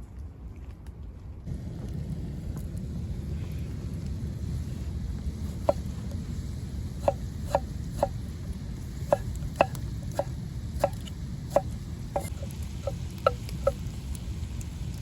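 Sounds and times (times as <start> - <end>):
low rumble of wind: 0.0 - 15.0.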